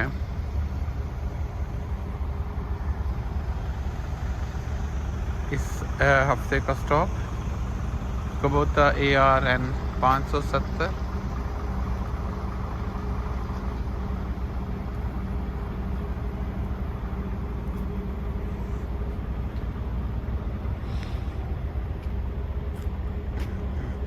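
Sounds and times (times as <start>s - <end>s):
combine harvester engine drone: 0.0s - 24.0s.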